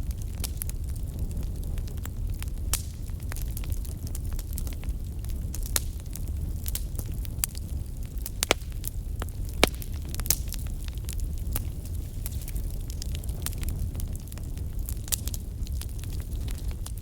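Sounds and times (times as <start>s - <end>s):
burning wood crackling and popping: 0.0s - 17.0s
flames rumbling: 0.0s - 17.0s.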